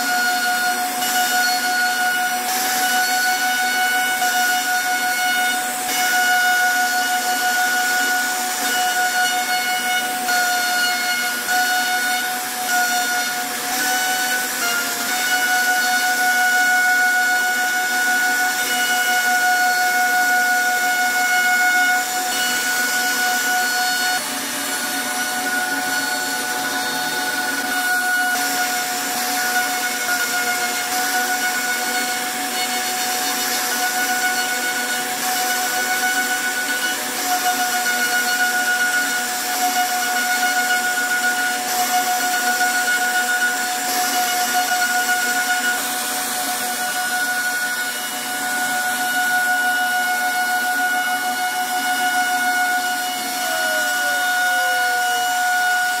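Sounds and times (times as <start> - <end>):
router spindle high whine: 0.0 - 56.0.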